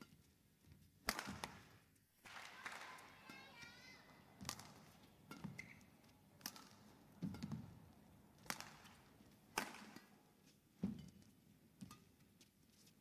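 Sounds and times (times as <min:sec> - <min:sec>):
rackets striking shuttlecock: 0:01.1 - 0:01.7, 0:02.3 - 0:12.3.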